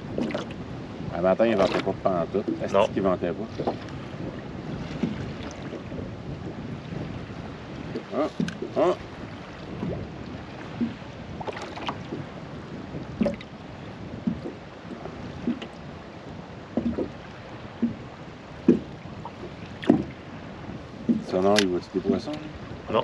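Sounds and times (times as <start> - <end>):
waves slapping against boat hull: 0.0 - 23.0.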